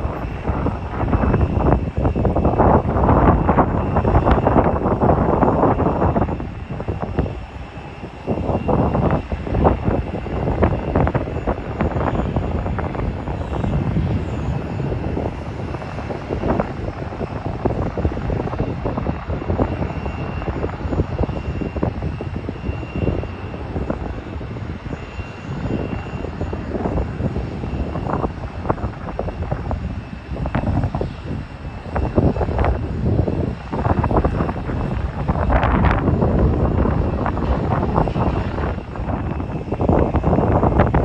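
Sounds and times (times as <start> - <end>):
distant jet engines running: 0.0 - 41.0
wind buffeting microphone: 0.0 - 41.0.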